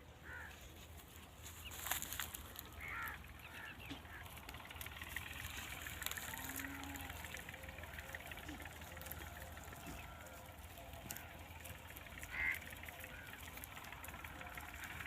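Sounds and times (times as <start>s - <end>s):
low background hum: 0.0s - 15.0s
short animal calls: 2.6s - 15.0s.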